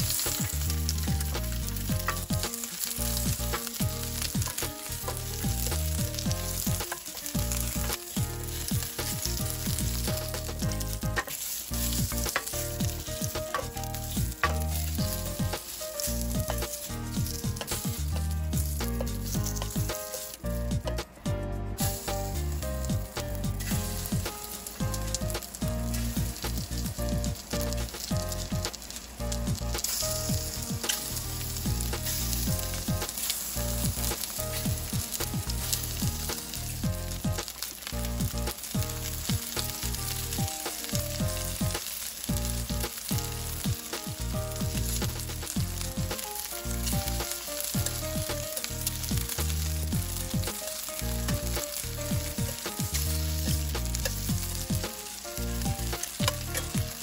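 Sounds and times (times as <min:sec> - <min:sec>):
shrimp frying in hot oil: 0:00.0 - 0:57.0.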